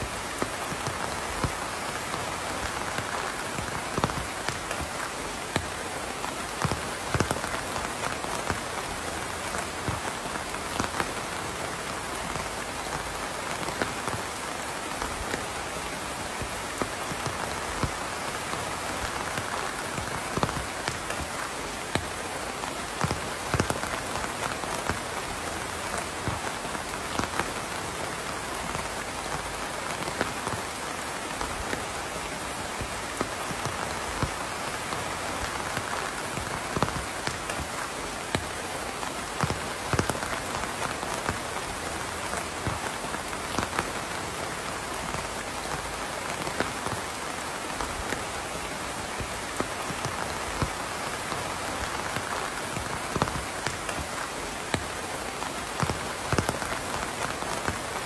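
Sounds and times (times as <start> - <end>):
raindrops landing: 0.0 - 58.0
steady rain hiss: 0.0 - 58.0.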